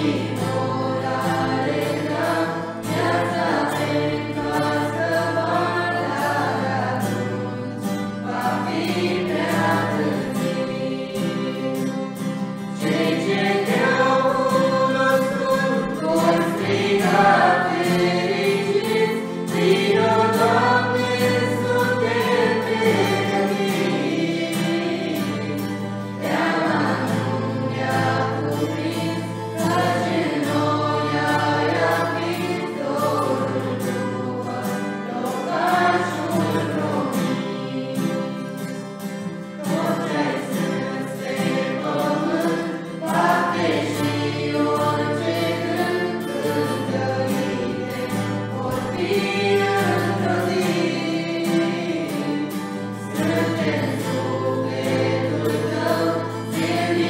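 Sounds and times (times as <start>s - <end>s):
acoustic guitar: 0.0s - 57.0s
group singing: 0.0s - 57.0s.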